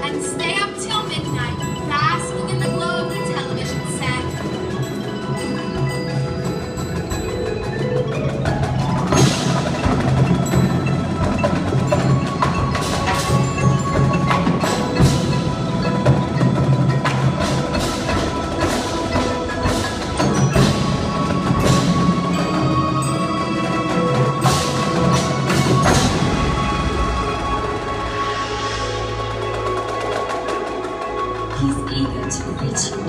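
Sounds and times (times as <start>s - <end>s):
mallet keyboards ringing: 0.0s - 33.0s
drum and percussion hits: 4.3s - 33.0s.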